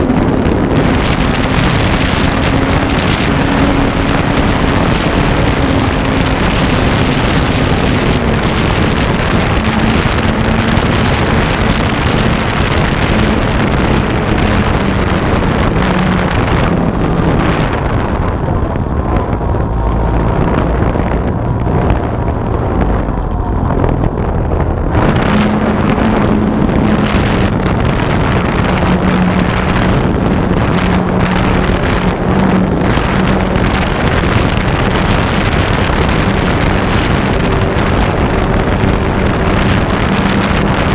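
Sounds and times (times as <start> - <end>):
electric motor and propeller: 0.0 - 22.1, 23.9 - 40.9
wind noise on microphone: 0.0 - 40.9.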